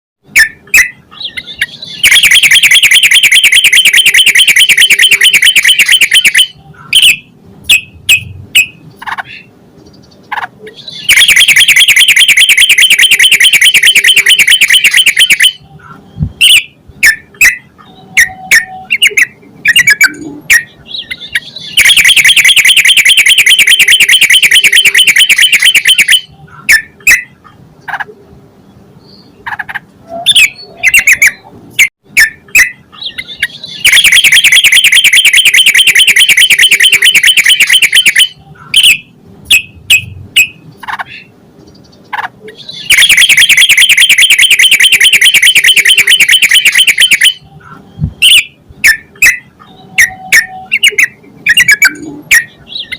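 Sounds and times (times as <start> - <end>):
bird chattering song: 0.3 - 31.5, 32.1 - 52.9.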